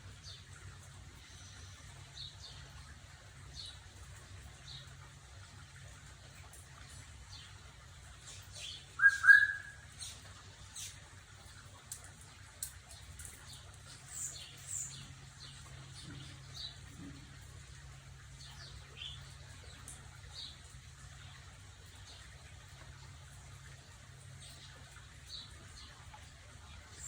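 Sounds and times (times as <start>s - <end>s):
low steady hum: 0.0s - 27.0s
small birds chirping: 0.0s - 27.0s.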